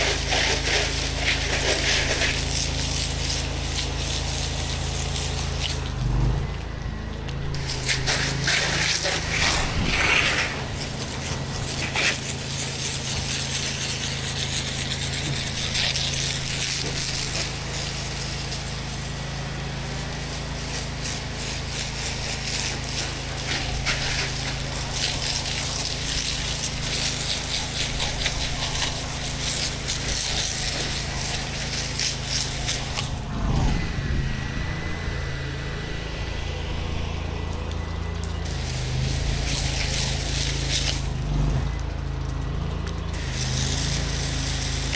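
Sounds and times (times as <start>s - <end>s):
high-pressure water spray hissing: 0.0s - 6.4s, 7.0s - 33.5s, 36.3s - 44.9s
pressure washer engine running: 0.0s - 44.9s.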